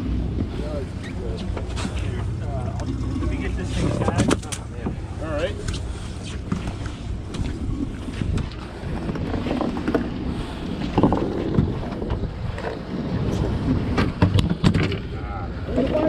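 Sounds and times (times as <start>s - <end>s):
boat engine rumble: 0.0s - 16.0s
wind buffeting microphone: 0.0s - 16.0s.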